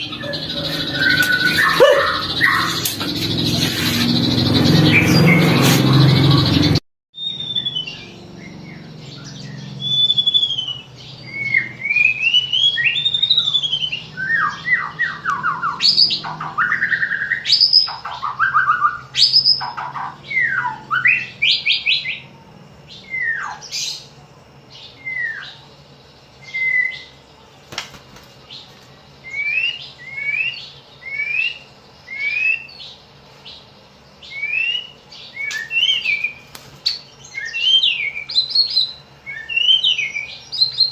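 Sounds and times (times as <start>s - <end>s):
bird singing whistles and trills: 0.0s - 22.3s, 22.9s - 24.1s, 24.7s - 25.7s, 26.4s - 27.2s, 29.2s - 40.9s.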